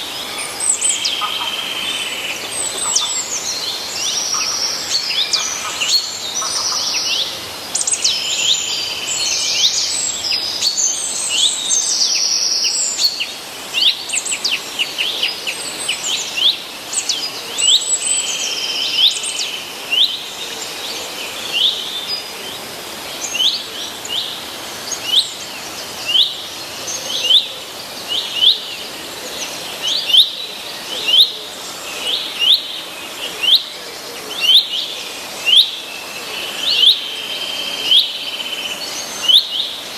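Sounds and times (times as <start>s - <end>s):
wild birds singing and chirping: 0.0s - 39.9s.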